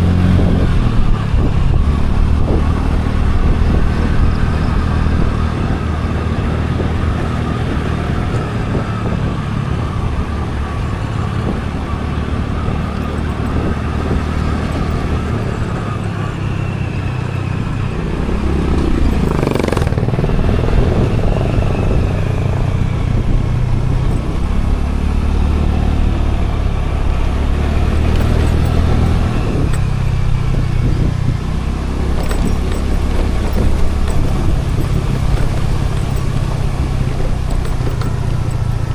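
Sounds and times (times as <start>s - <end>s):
road noise: 0.0s - 38.9s
scooter engine running: 0.0s - 38.9s.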